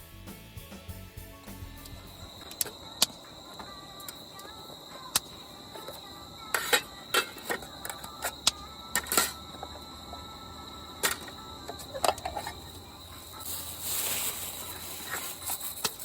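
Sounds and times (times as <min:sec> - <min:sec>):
cricket trilling: 0:01.2 - 0:16.0.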